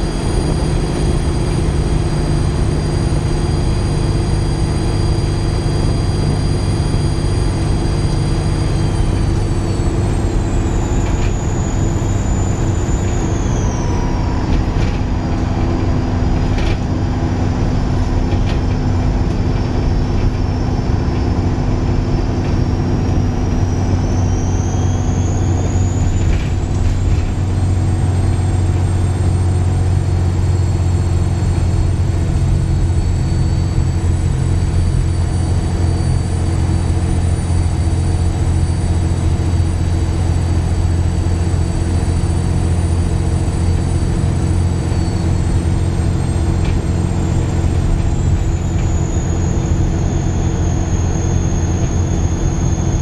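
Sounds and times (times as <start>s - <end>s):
bus engine rumbling: 0.0s - 53.0s
squealing turbocharger whistle: 0.0s - 53.0s.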